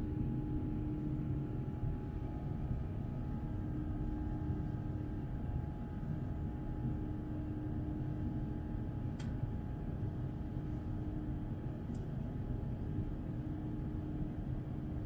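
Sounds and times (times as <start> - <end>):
aircraft cabin engine rumble: 0.0 - 15.0
steady hum: 0.0 - 15.0.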